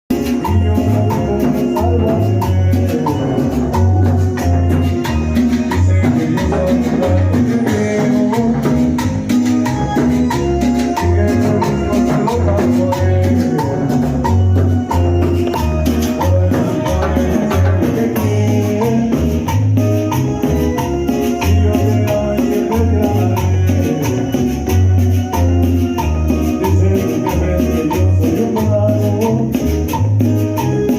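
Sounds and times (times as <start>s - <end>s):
band playing latin dance music: 0.1s - 30.9s.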